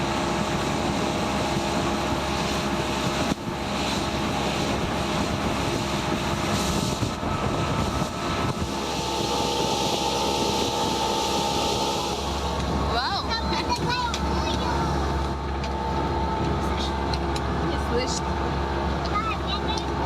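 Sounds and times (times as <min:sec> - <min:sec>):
motorboat engine running: 0:00.0 - 0:20.0
water noise: 0:00.0 - 0:20.0
wind: 0:00.0 - 0:20.0.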